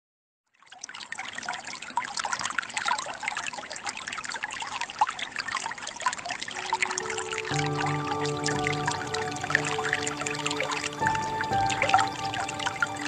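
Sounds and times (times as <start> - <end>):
water trickling over pebbles: 0.4 - 13.0.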